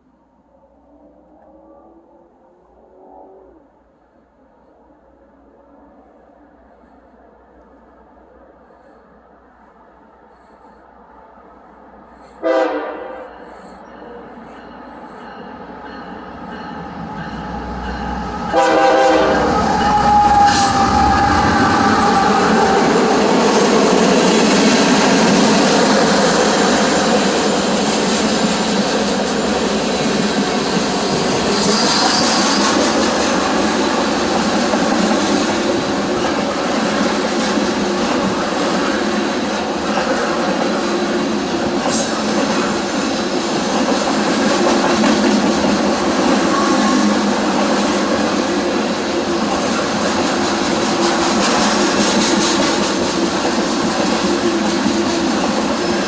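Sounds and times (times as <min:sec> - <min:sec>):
freight train rumbling past: 0:00.7 - 0:56.0.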